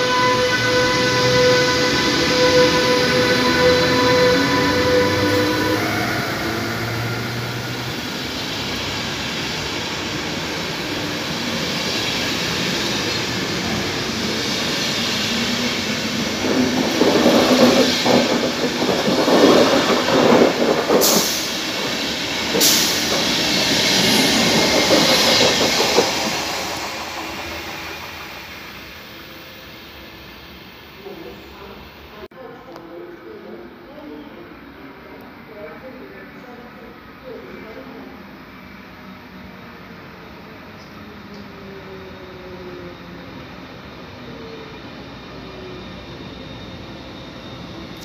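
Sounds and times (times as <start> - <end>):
train coaches rolling past: 0.0 - 48.0.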